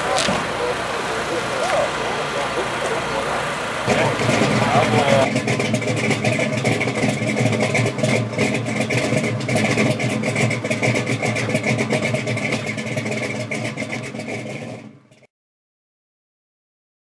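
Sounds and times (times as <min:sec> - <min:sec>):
truck engine idling: 0:00.0 - 0:15.2.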